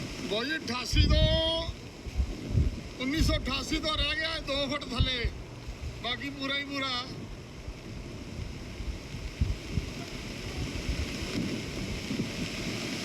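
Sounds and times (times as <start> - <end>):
floodwater rushing: 0.0 - 13.0
wind buffeting microphone: 0.0 - 13.0.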